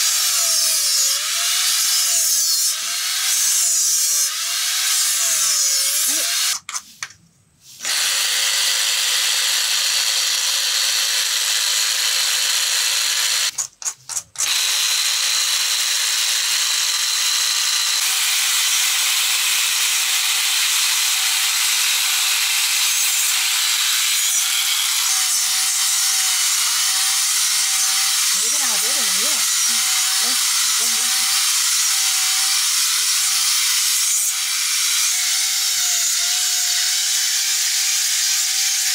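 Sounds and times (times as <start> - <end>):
electric angle grinder grinding: 0.0 - 6.8, 7.8 - 38.9.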